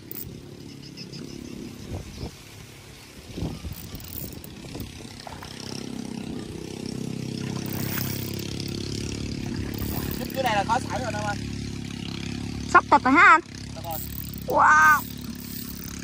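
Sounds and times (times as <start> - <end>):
low motor hum: 0.0 - 2.0, 3.4 - 16.0.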